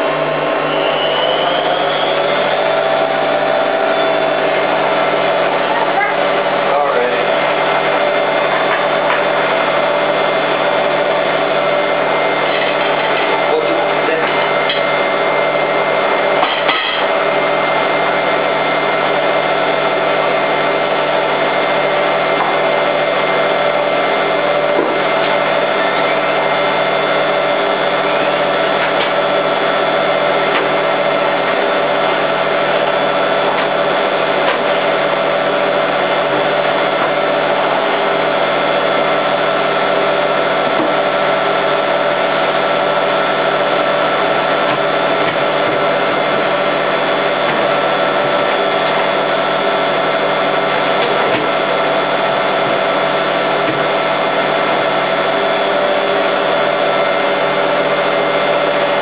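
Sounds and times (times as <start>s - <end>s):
washing machine spinning whine: 0.0s - 59.0s.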